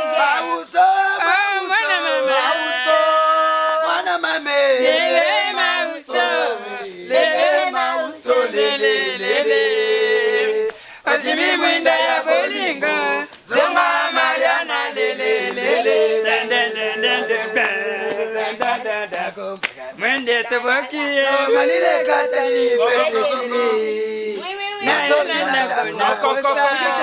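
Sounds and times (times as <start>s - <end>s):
man singing lead: 0.0s - 27.0s
voices singing unaccompanied: 0.0s - 27.0s.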